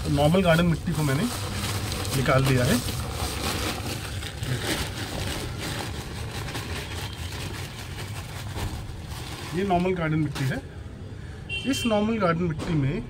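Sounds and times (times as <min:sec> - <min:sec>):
plastic sack rustling: 0:00.0 - 0:10.7.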